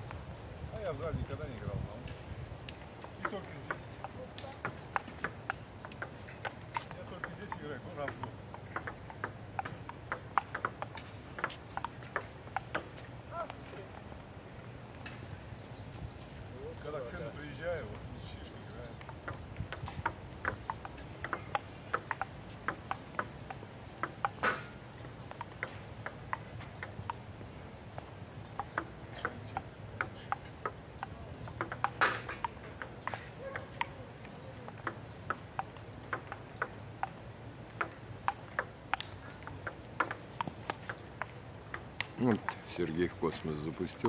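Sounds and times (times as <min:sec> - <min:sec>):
table tennis balls clicking: 0:02.6 - 0:15.1, 0:18.8 - 0:44.0.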